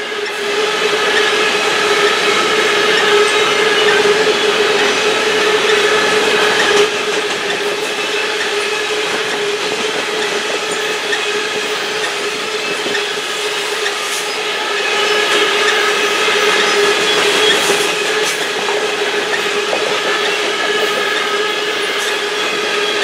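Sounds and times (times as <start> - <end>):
freight train wheels on rail: 0.0 - 23.0.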